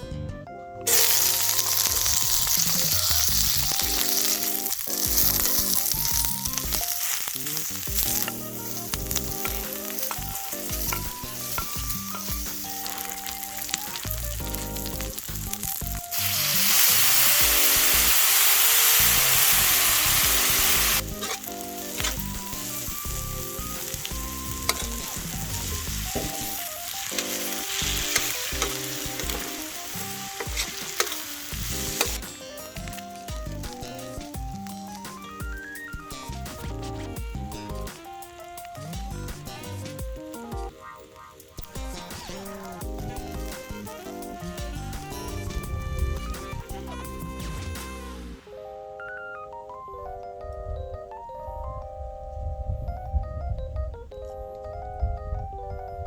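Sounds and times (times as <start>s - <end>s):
background music: 0.0s - 56.0s
food frying and sizzling: 0.9s - 48.7s.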